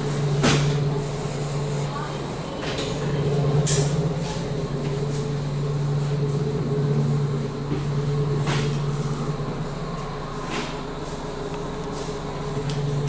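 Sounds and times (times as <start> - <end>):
electric train interior hum: 0.0 - 13.0.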